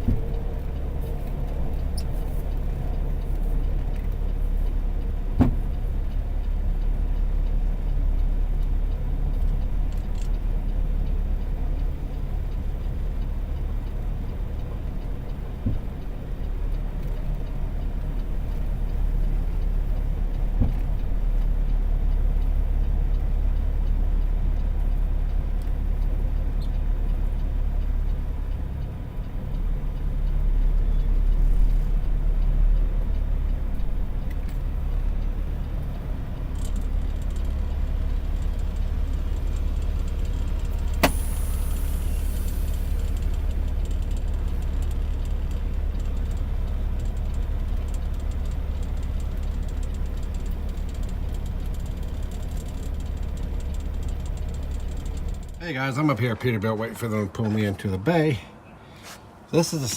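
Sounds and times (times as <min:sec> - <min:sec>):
engine knocks: 0:00.0 - 0:56.6
diesel truck engine rumbling: 0:00.0 - 0:59.9.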